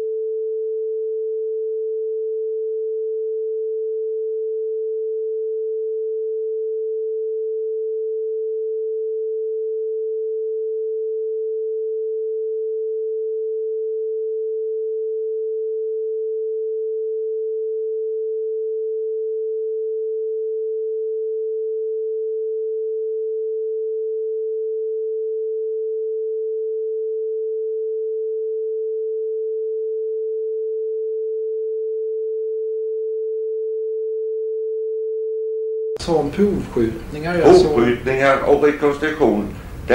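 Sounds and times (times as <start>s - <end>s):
sine-wave censor tone: 0.0s - 36.0s.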